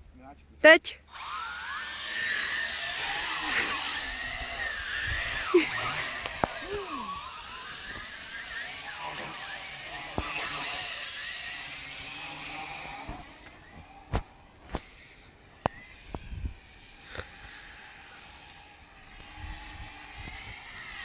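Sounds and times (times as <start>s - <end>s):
toy drone motors whining: 1.0s - 21.0s.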